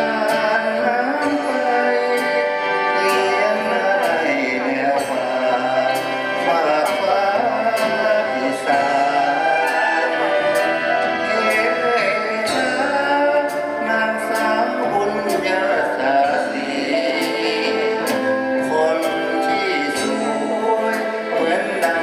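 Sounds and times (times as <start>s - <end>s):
big band playing: 0.0s - 22.0s
man singing: 0.0s - 22.0s.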